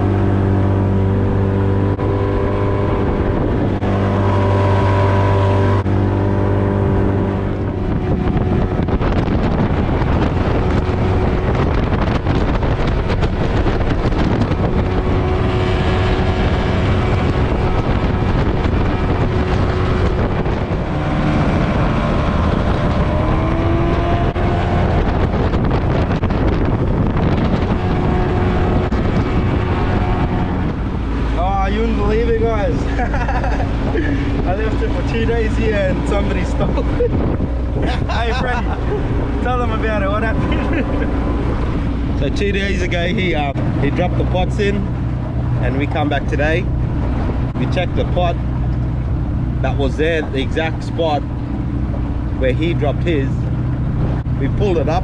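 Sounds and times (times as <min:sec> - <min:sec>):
outboard motor running: 0:00.0 - 0:55.0
wind buffeting microphone: 0:00.0 - 0:55.0.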